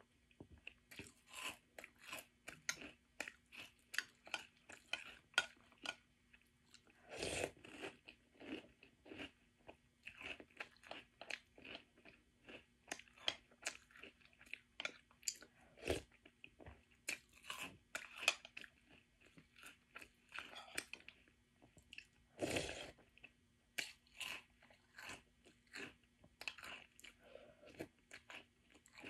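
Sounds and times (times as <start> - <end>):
crunching and chewing cereal: 0.3 - 29.0.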